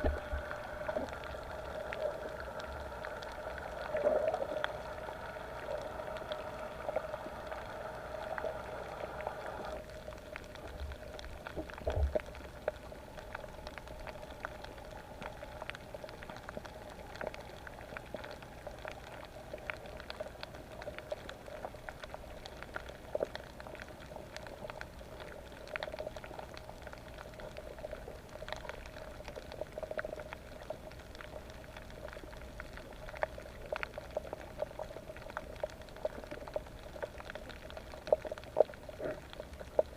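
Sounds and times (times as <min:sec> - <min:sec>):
crackle of small clicks underwater: 0:00.0 - 0:39.9
steady underwater hum: 0:00.0 - 0:39.9.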